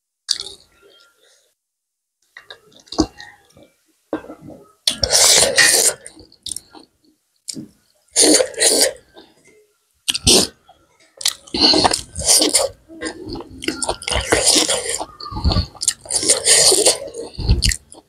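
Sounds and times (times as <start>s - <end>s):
soft chewing: 2.3s - 18.0s.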